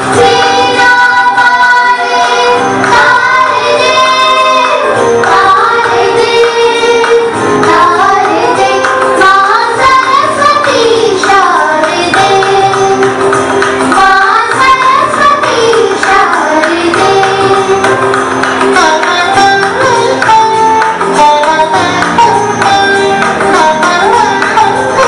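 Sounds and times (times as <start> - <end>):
woman singing devotional song: 0.0 - 18.1, 18.7 - 25.0
instrumental accompaniment: 0.0 - 25.0.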